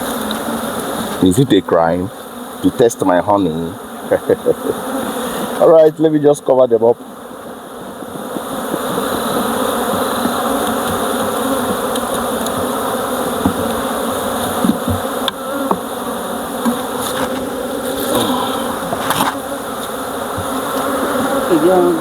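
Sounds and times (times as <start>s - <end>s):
bee colony buzzing: 0.0s - 22.0s
bees whining past: 0.0s - 22.0s.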